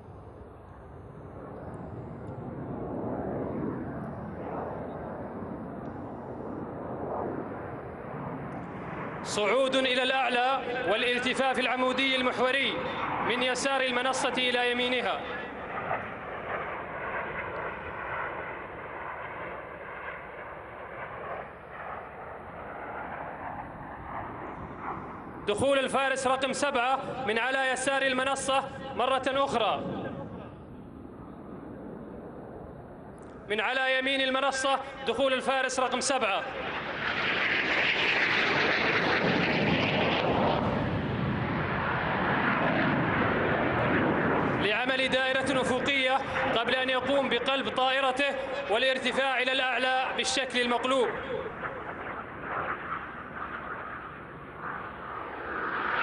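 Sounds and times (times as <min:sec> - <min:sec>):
jet aircraft flying past: 0:00.0 - 0:56.0.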